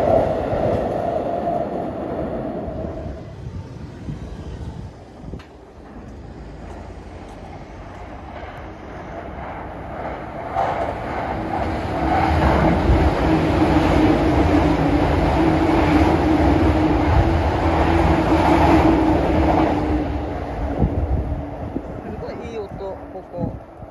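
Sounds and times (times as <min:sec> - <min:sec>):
electric train running past: 0:00.0 - 0:23.9.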